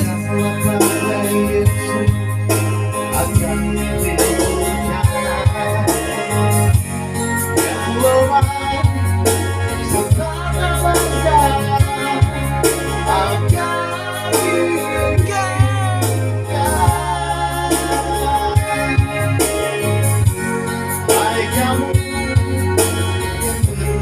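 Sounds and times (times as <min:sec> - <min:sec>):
electronic keyboard accompaniment: 0:00.0 - 0:24.0
person singing: 0:00.0 - 0:24.0.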